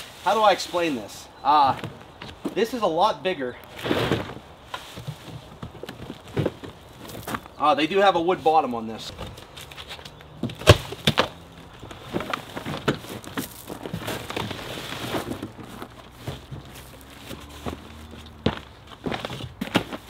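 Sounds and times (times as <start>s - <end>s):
cardboard and plastic wrap rustling: 3.7s - 20.0s.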